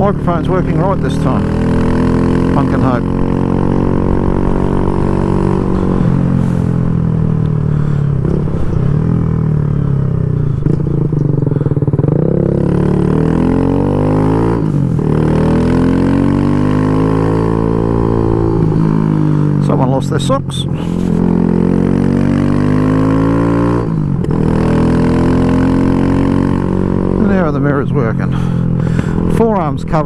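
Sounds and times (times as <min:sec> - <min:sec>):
motorcycle engine under way: 0:00.0 - 0:30.0.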